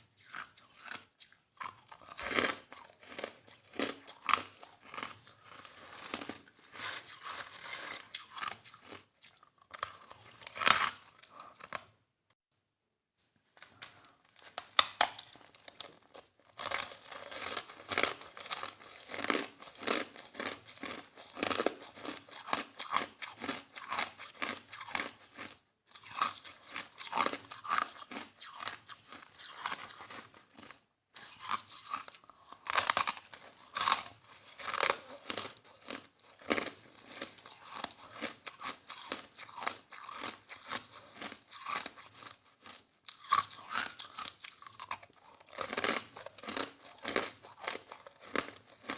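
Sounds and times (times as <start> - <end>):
crunching ice chewing: 0.1 - 11.9, 14.7 - 48.9.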